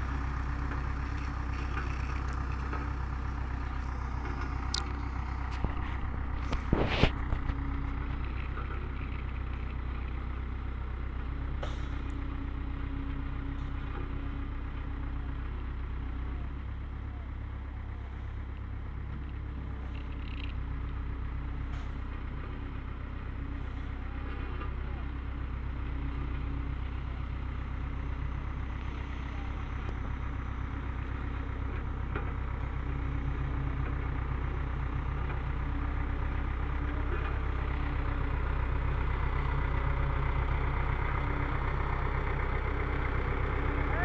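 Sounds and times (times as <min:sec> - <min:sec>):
heavy machinery engine humming: 0:00.0 - 0:44.0.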